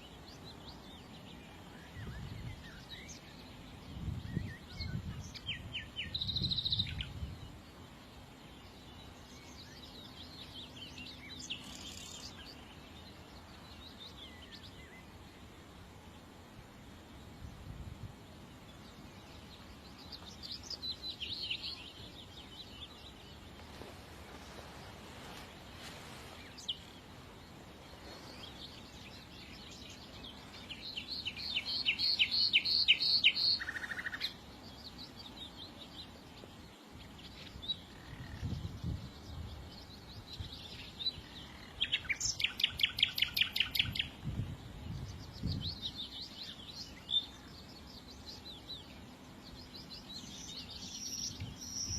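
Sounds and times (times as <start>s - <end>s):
songbirds trilling and chirping: 0.0s - 51.9s.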